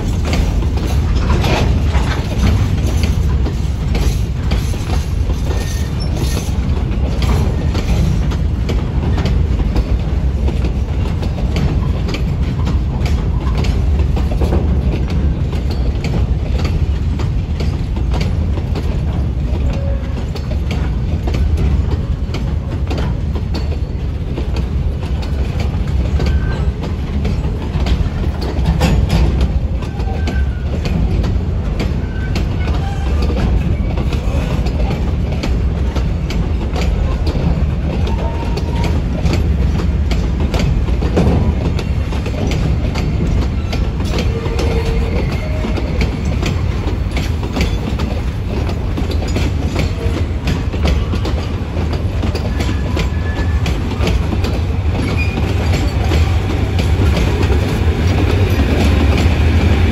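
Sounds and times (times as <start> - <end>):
freight wagons rumbling: 0.0 - 59.9
wheels clicking over rail joints: 0.0 - 59.9.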